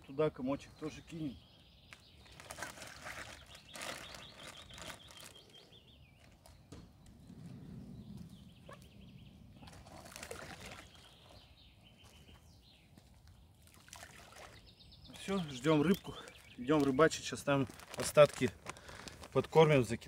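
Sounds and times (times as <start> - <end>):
birds singing: 0.0 - 20.0
faint outdoor ambience: 0.0 - 20.0.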